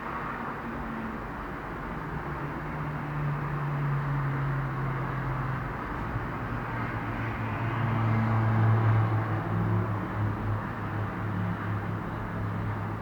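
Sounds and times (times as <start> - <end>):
low drone of engines: 0.0 - 13.0.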